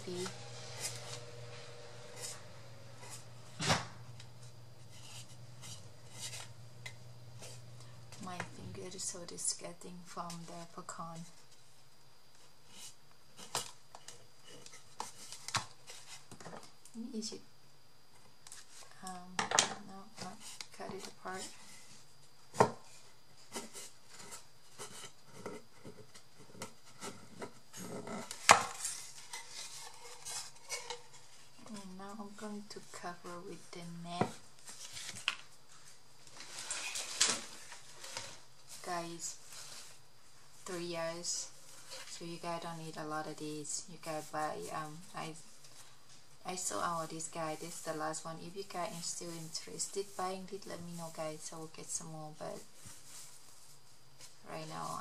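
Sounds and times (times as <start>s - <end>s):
rubbing and rustling: 0.0s - 16.8s, 20.0s - 55.0s
steady low hum: 0.0s - 55.0s.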